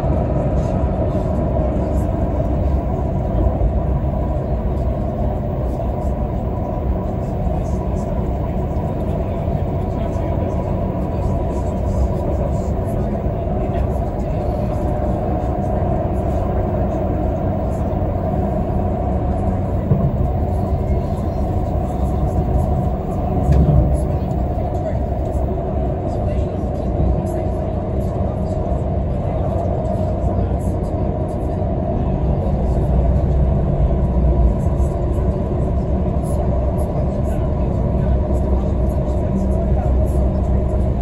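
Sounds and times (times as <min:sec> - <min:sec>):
train low rumble: 0:00.0 - 0:41.0.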